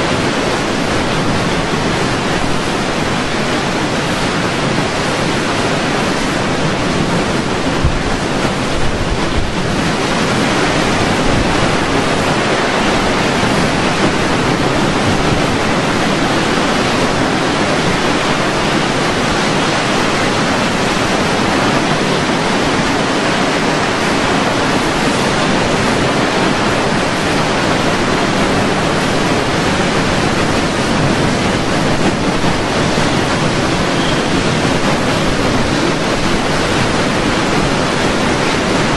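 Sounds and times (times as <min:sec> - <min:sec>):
strong wind rushing: 0:00.0 - 0:38.9
wind buffeting microphone: 0:00.0 - 0:38.9.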